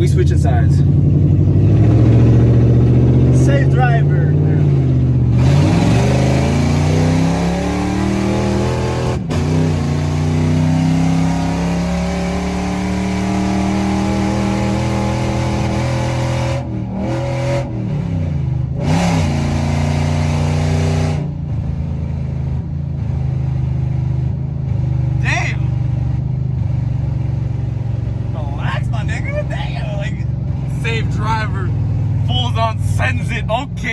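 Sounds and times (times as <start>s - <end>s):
truck engine accelerating: 0.0s - 33.9s.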